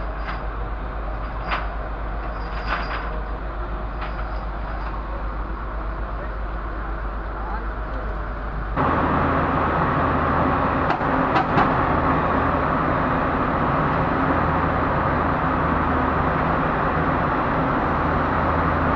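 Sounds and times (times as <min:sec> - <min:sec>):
diesel engine idling: 0:03.1 - 0:18.9.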